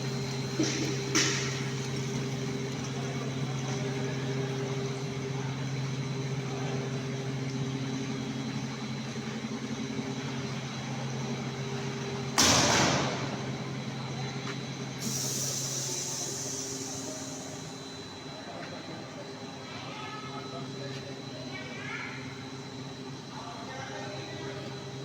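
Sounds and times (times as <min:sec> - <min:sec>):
rice milling machine motor hum: 0:00.0 - 0:25.0.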